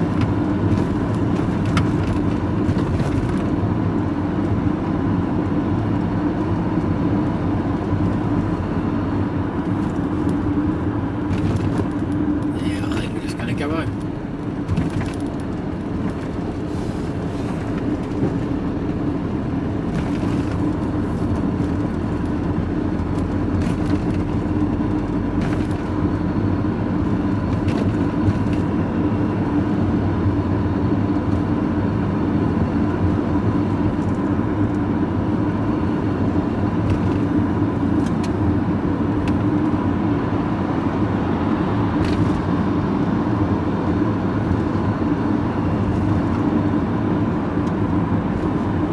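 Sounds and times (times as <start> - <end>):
vehicle engine and road drone: 0.0 - 48.9.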